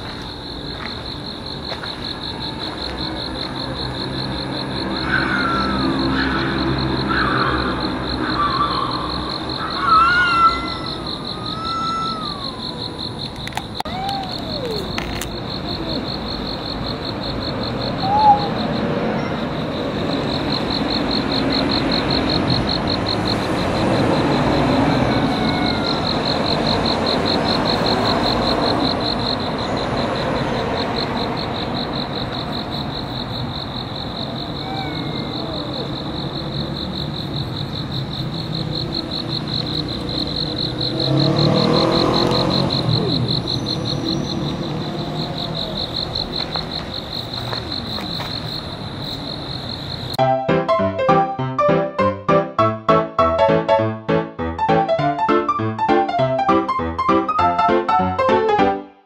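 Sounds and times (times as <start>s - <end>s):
insects trilling: 0.0s - 50.2s.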